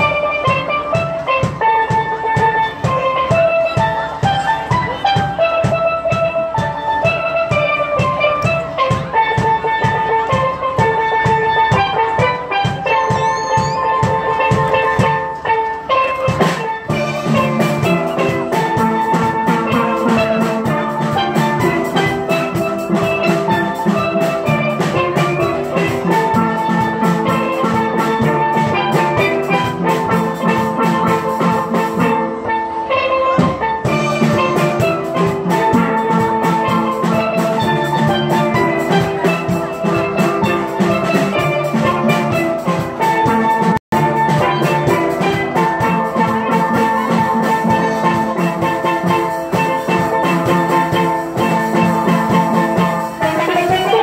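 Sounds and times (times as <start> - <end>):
drum kit beat: 0.0 - 54.0
steel pans playing: 0.0 - 54.0.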